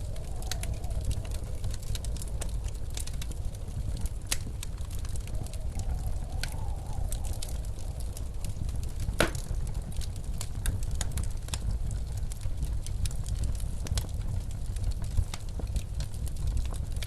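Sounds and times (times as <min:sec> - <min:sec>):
blizzard wind rumbling: 0:00.0 - 0:17.0
wood fire crackling and popping: 0:00.0 - 0:17.0.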